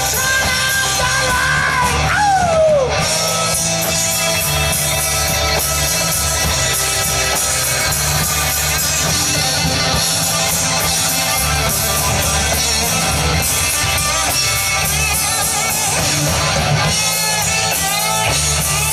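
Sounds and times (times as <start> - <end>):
rock band playing loudly: 0.0 - 18.9.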